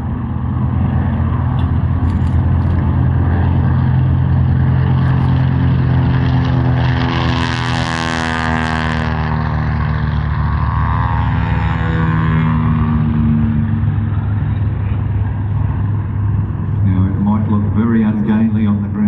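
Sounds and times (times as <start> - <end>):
propeller plane flying by: 0.0 - 19.0.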